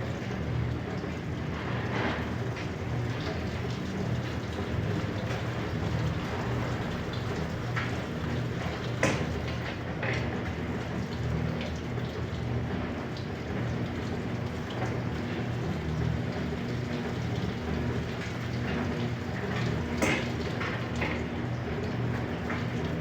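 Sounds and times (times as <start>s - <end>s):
washing machine motor hum: 0.0s - 23.0s
water splashing in washing machine: 0.0s - 23.0s.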